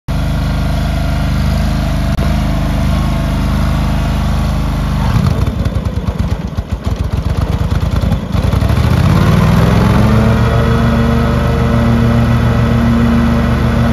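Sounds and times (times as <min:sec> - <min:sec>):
garden tractor engine running: 0:00.1 - 0:13.9.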